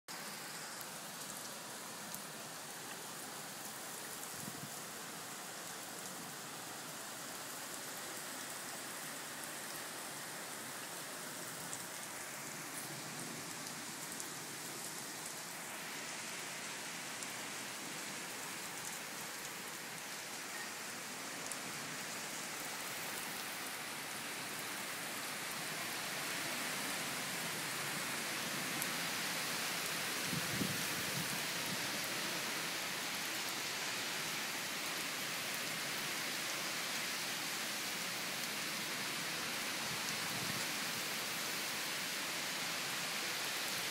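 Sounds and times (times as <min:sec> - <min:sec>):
heavy rain on wooden deck: 0:00.1 - 0:43.9.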